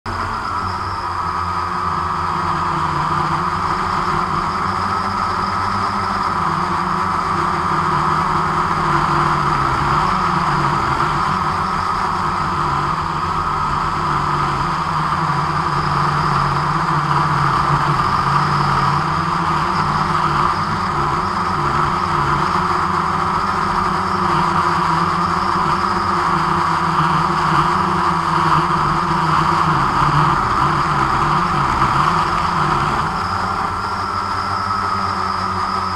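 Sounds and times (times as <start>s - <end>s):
drone propellers whirring: 0.1s - 35.9s.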